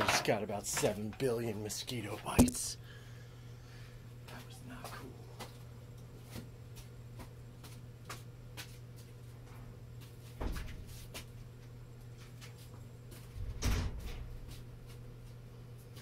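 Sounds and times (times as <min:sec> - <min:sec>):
steady low hum: 0:00.4 - 0:16.0.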